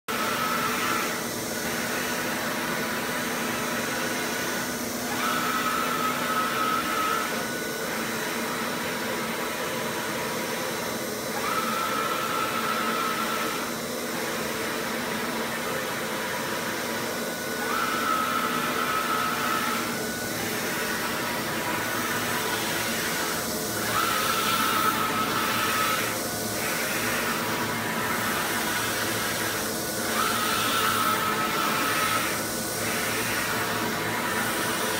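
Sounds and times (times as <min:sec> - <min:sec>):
high machine whine: 0:00.1 - 0:34.9
printer hissing: 0:00.1 - 0:34.9.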